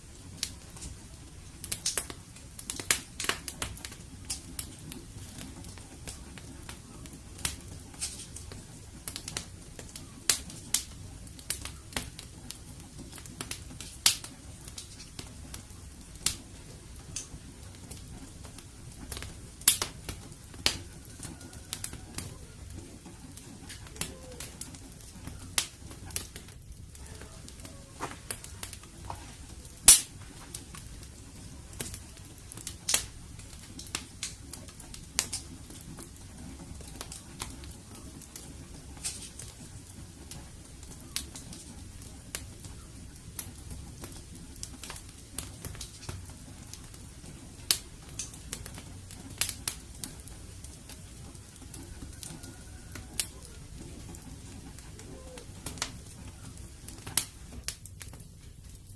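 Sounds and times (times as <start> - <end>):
low rush of flames: 0.0 - 58.9
wood fire crackling: 0.0 - 58.9.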